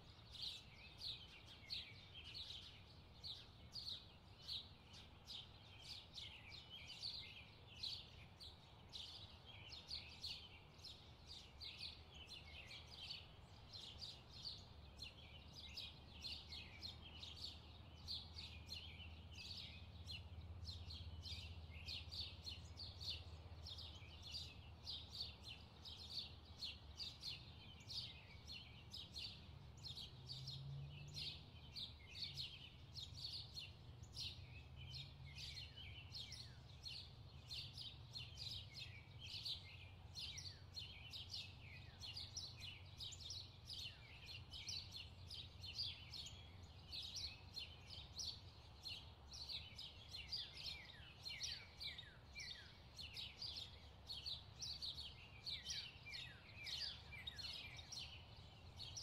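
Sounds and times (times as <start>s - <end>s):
birds chirping faintly: 0.0s - 59.0s.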